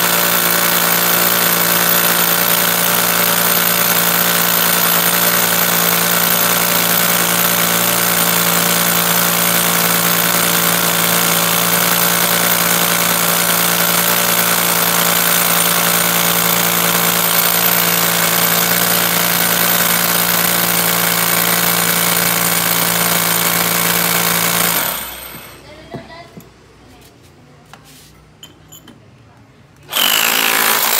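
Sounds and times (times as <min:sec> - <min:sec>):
hammer drill drilling into stone: 0:00.0 - 0:25.6, 0:29.9 - 0:30.9.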